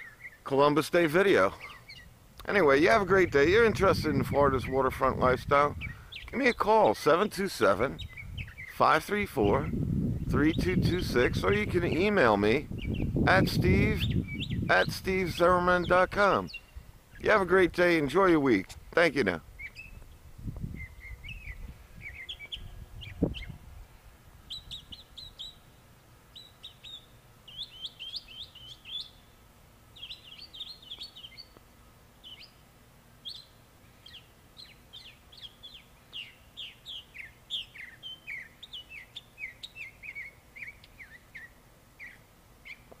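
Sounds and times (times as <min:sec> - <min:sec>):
songbird singing: 0:00.0 - 0:43.0.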